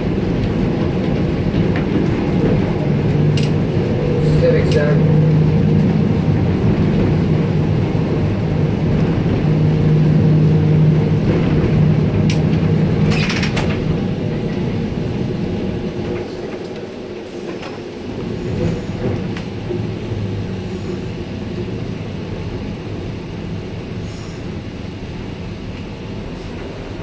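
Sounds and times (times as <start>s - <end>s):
streetcar rumbling on track: 0.0s - 27.0s.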